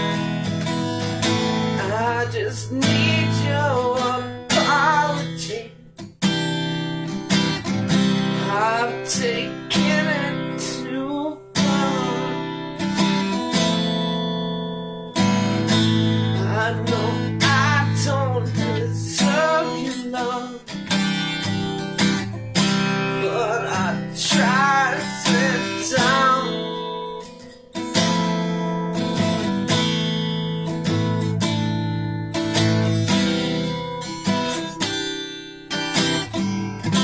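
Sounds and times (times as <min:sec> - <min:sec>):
strummed acoustic guitar: 0:00.0 - 0:37.0.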